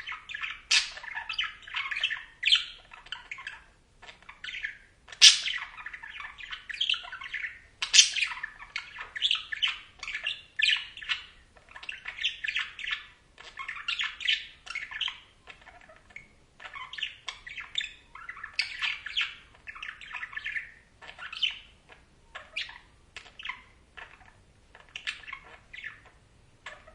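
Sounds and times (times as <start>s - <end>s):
budgerigars chattering: 0.0s - 26.9s.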